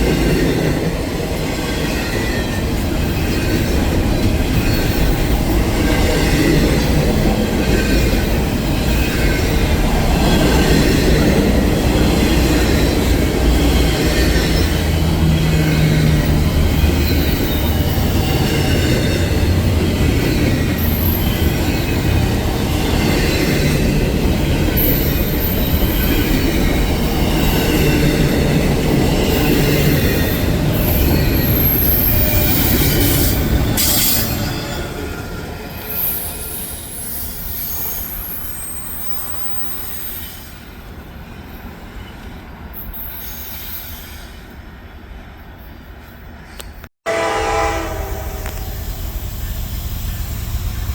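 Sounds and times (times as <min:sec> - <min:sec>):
wheels squealing on rails: 0:00.0 - 0:46.8
train rolling past: 0:00.0 - 0:50.9.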